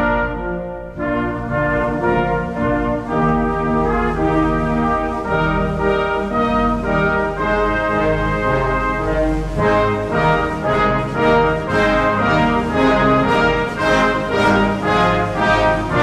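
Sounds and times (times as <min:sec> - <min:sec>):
brass band playing slow chords: 0:00.0 - 0:16.0.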